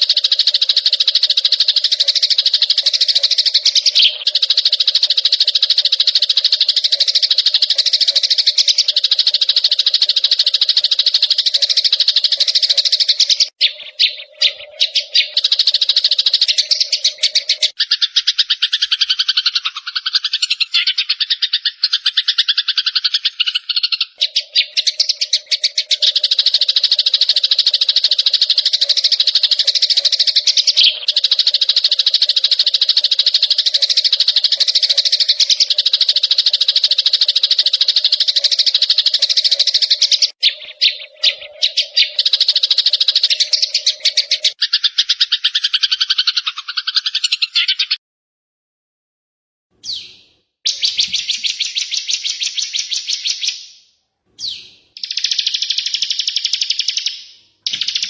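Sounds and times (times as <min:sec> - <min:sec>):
songbirds chattering trill: 0:00.0 - 0:47.9, 0:49.8 - 0:53.7, 0:54.4 - 0:58.0.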